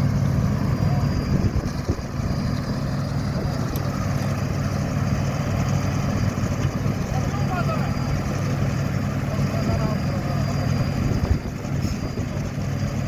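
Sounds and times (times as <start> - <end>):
diesel engines running: 0.0 - 13.0.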